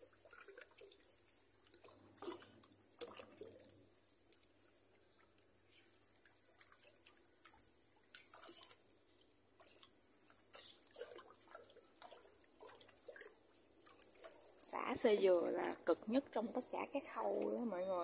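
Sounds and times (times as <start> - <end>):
water sloshing and squelching: 0.0 - 18.0.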